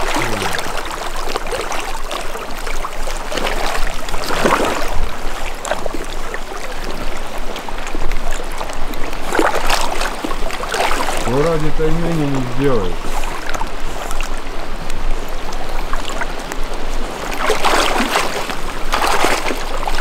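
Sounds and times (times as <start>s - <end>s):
splashing while wading: 0.0s - 14.6s, 15.2s - 20.0s
river water rushing: 0.0s - 20.0s.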